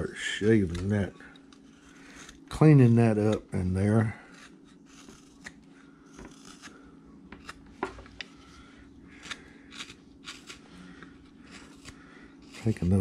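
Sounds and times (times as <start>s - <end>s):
knife scraping wood: 0.0s - 8.4s, 9.1s - 13.0s
faint steady hum: 0.0s - 13.0s.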